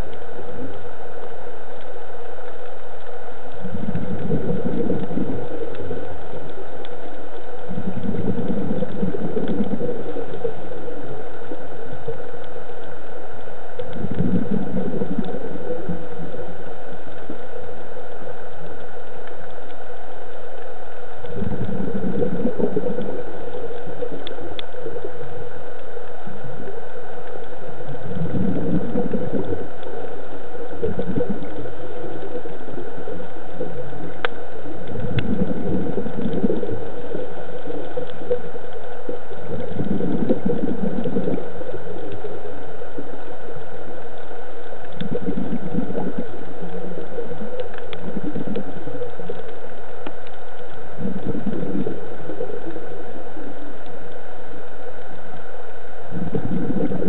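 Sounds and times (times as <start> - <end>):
steady hiss: 0.0 - 57.0
underwater bubbles gurgling: 0.0 - 57.0.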